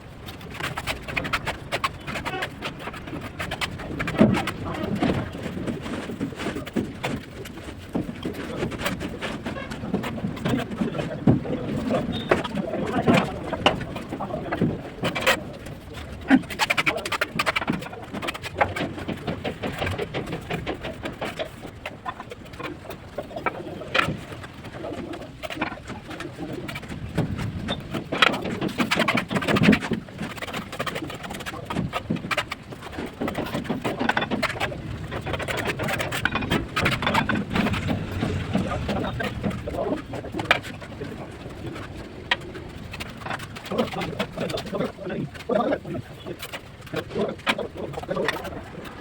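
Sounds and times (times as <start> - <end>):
sharp clicks and knocks: 0.2 - 49.0.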